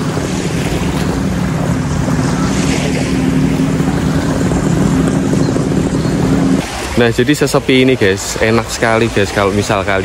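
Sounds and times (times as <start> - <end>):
low engine drone: 0.0 - 9.1
small waves washing: 0.0 - 10.0
wind: 0.0 - 10.0.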